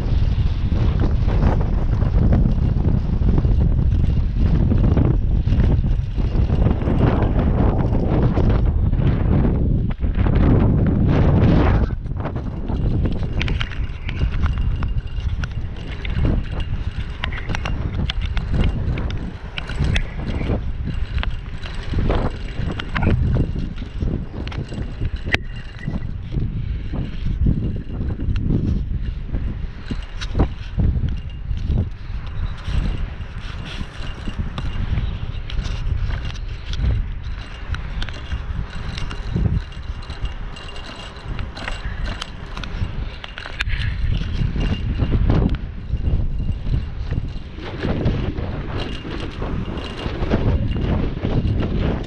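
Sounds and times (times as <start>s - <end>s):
bike clicking and rattling: 0.0s - 52.0s
tyre rumble: 0.0s - 52.0s
wind rushing over microphone: 0.0s - 52.0s.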